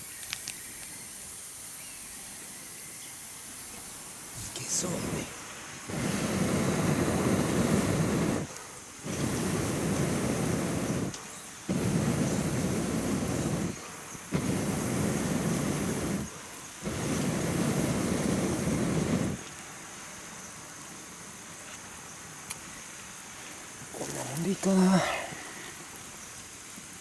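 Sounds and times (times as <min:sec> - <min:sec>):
air blowing onto campfire: 0:00.0 - 0:27.0
steady hiss: 0:00.0 - 0:27.0.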